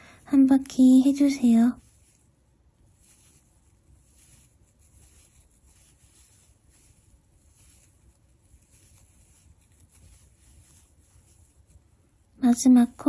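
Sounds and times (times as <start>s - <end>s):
yarn and crochet hook rustling: 0.0s - 13.0s.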